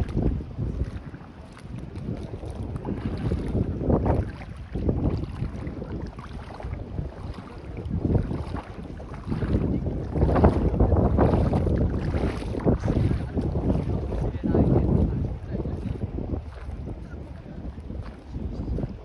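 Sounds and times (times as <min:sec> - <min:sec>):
waves washing against shore: 0:00.0 - 0:19.0
wind buffeting microphone: 0:00.0 - 0:19.0.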